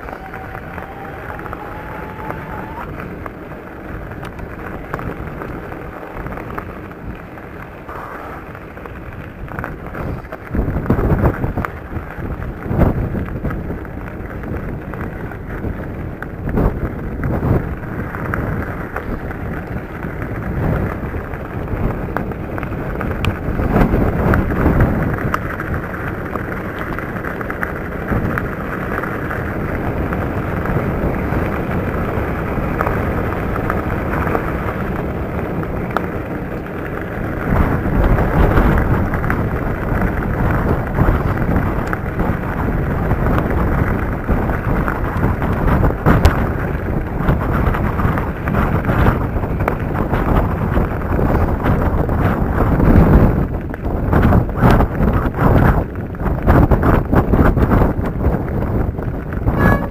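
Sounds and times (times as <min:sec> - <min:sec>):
bike jolting over bumps: 0:00.0 - 0:59.9
wind buffeting microphone: 0:00.0 - 0:59.9.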